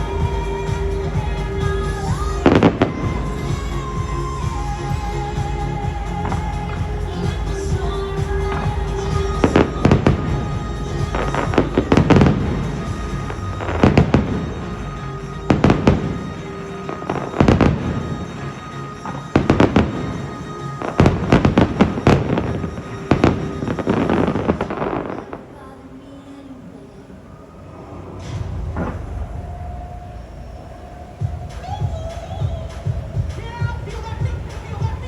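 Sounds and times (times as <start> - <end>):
fireworks bursting: 0.0 - 26.3, 27.2 - 35.0
music playing: 0.0 - 35.0.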